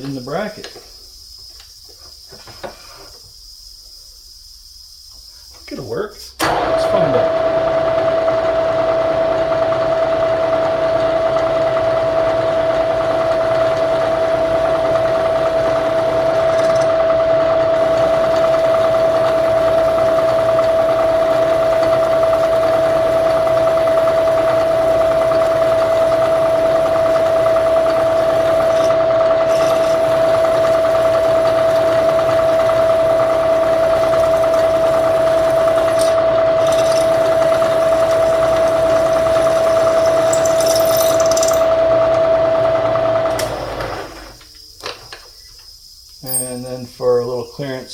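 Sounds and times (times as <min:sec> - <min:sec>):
milling machine spindle whine: 0:05.1 - 0:47.9
drill bit boring metal: 0:05.6 - 0:44.4.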